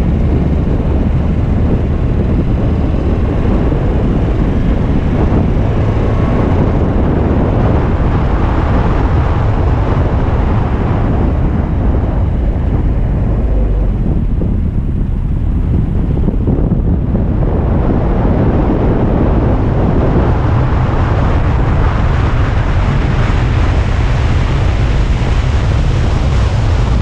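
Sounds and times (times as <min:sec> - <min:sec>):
car running and road noise: 0:00.0 - 0:27.0
wind buffeting microphone: 0:00.0 - 0:27.0.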